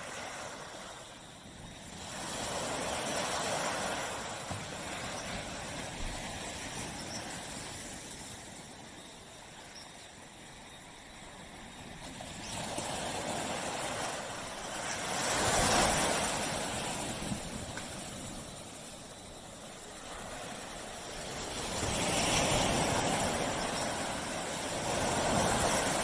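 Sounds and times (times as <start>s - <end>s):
small waves breaking on beach: 0.0s - 26.0s.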